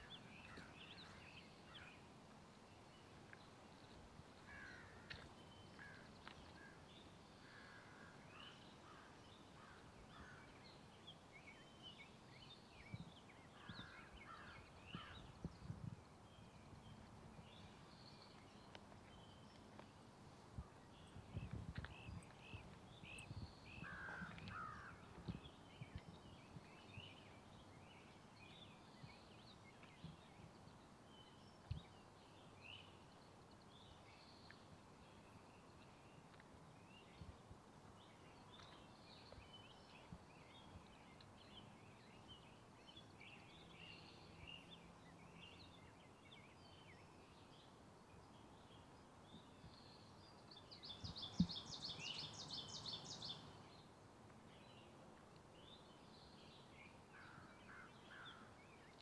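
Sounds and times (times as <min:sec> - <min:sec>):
songbird chirps and calls: 0:00.0 - 0:59.0.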